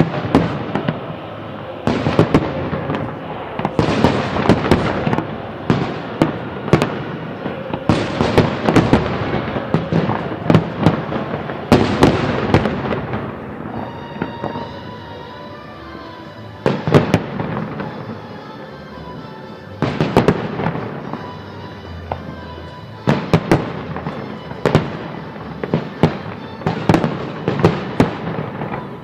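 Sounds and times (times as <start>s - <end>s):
fireworks crackle and rumble: 0.0s - 15.1s, 16.6s - 18.3s, 19.8s - 29.0s.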